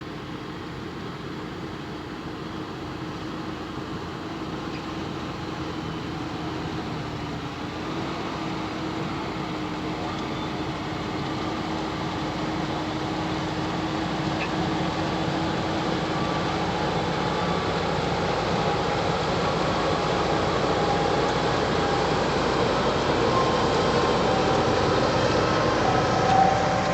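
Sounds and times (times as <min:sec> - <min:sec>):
tractor diesel engine working: 0:00.1 - 0:26.9.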